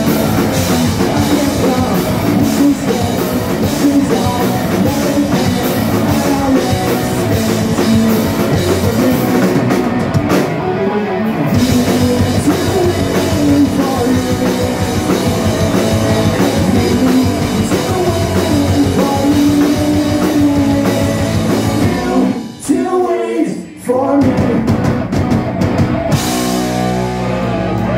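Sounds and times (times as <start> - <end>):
man singing lead: 0.0 - 24.9
bass guitar: 0.0 - 27.9
distorted electric guitars: 0.0 - 27.9
drum kit: 0.0 - 27.9.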